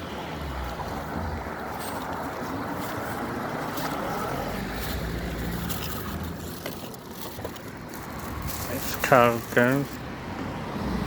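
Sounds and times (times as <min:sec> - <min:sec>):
outdoor noise rushing: 0:00.0 - 0:11.0.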